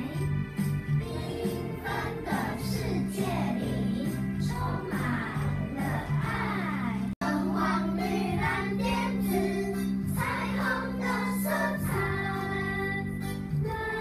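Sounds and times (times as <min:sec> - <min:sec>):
upbeat children's song: 0:00.0 - 0:14.0.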